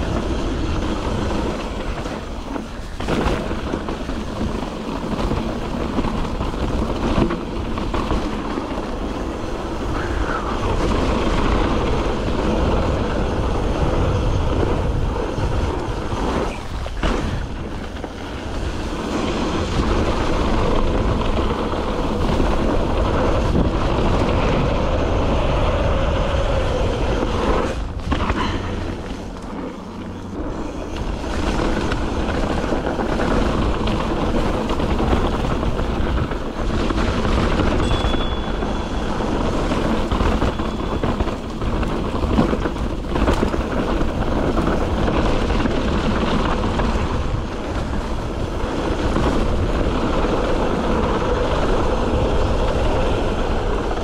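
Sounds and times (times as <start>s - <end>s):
bike tyre rumble on dirt: 0.0s - 54.0s
wind on microphone: 0.0s - 54.0s.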